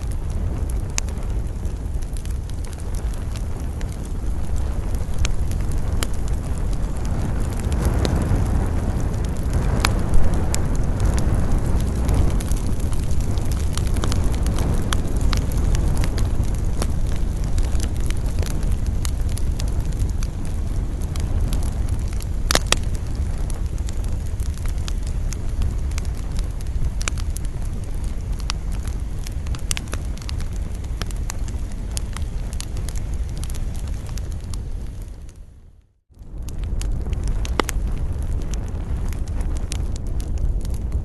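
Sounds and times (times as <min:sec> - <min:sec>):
sharp pops of burning wood: 0:00.0 - 0:35.3, 0:36.4 - 0:41.0
campfire crackling: 0:00.0 - 0:41.0
low rush of wind: 0:00.0 - 0:41.0.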